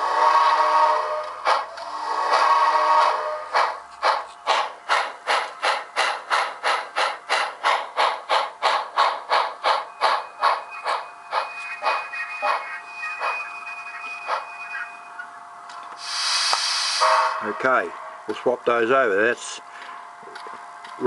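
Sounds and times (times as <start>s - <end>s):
steam locomotive chuffing: 0.0s - 14.9s, 16.0s - 20.0s.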